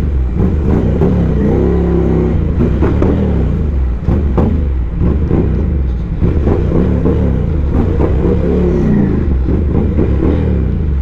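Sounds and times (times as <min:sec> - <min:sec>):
motorcycle engine revving: 0:00.0 - 0:11.0
steady rush of noise: 0:00.0 - 0:11.0.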